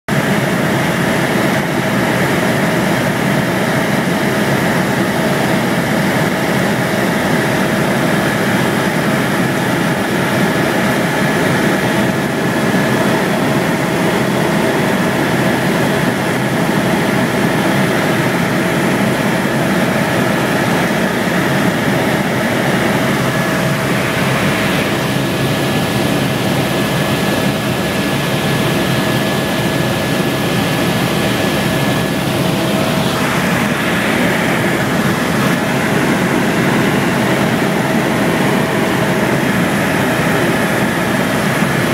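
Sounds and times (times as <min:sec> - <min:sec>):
helicopter engine and rotor: 0:00.1 - 0:41.9.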